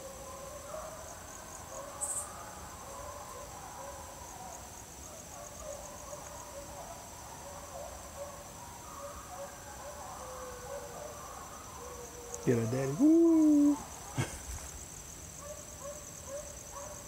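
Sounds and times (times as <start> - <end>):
hounds baying in the distance: 0.0 - 14.7, 15.3 - 17.0
crickets and insects chorus: 0.0 - 17.0.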